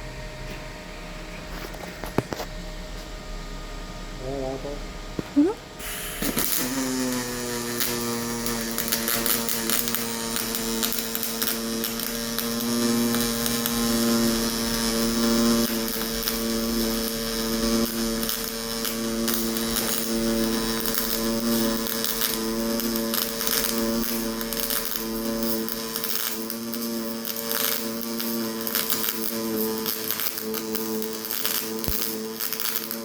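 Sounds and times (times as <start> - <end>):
welding arc buzzing hum: 0.0 - 33.0
welding spatter crackle: 5.2 - 33.0.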